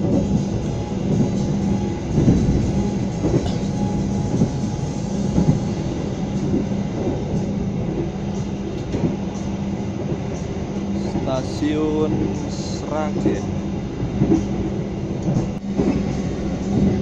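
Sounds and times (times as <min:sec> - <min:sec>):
constant low hum: 0:00.0 - 0:17.0
train wheels rumbling on rails: 0:00.0 - 0:17.0.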